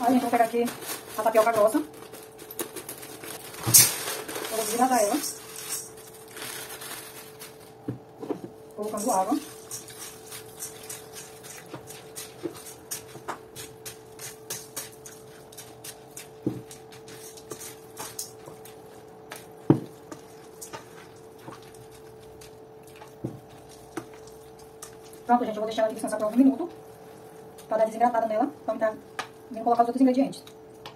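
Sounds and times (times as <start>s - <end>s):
faint hum: 0.0s - 30.9s.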